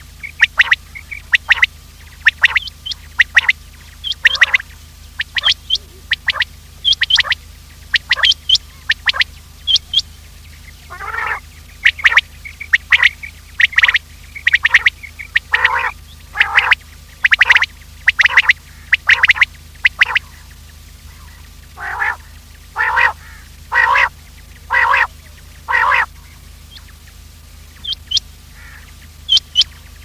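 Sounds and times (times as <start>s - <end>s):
quail calling in short sharp notes: 0.0s - 10.1s, 10.7s - 20.5s, 21.1s - 27.0s, 27.8s - 29.8s
lower harsher quail calls: 0.0s - 30.0s.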